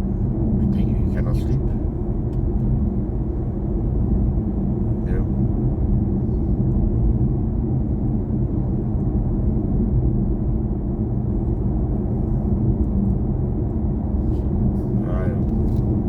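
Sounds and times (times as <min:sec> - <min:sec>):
road and tyre rumble in car cabin: 0:00.0 - 0:16.0.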